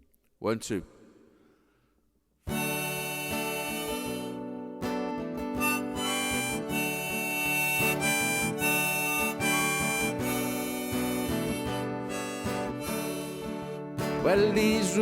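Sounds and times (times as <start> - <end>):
acoustic guitar: 2.4 - 15.0
harmonica: 2.5 - 15.0.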